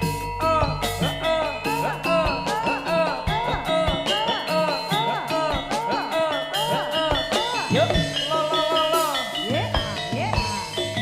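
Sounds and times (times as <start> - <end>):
melody bending in pitch: 0.0 - 11.0
metallophone notes: 0.0 - 11.0.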